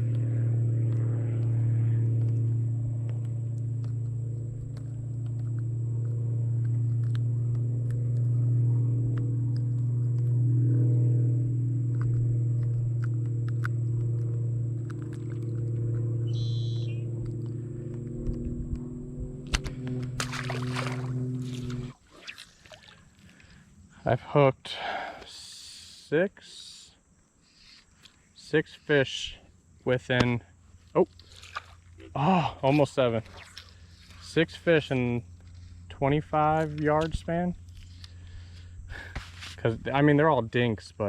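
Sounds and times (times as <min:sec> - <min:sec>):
boat motor running: 0:00.0 - 0:23.6, 0:30.1 - 0:41.0.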